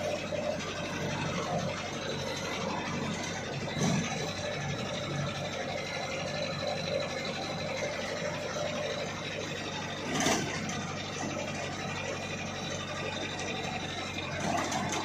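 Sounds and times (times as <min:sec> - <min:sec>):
diesel engine running: 0:00.0 - 0:15.0
road and cab noise: 0:00.0 - 0:15.0.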